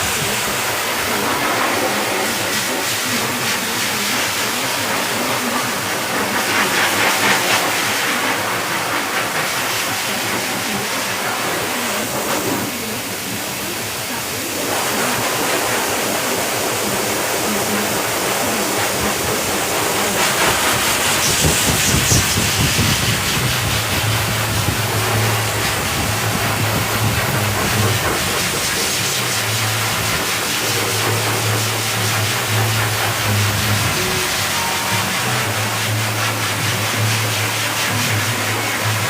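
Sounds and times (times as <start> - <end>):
pet grooming dryer blowing air: 0.0 - 39.0.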